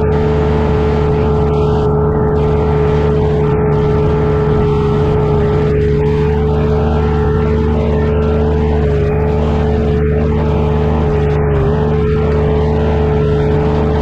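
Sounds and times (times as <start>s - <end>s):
earthmoving machine engine running: 0.0s - 14.0s
strong steady hum: 0.0s - 14.0s.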